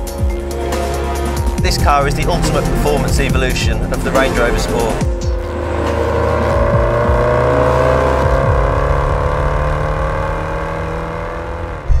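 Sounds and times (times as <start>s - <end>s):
car engine accelerating hard: 0.5s - 12.0s.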